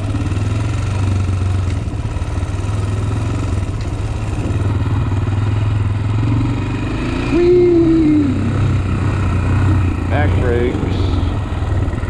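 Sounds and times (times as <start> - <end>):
quad engine idling low: 0.0 - 12.0.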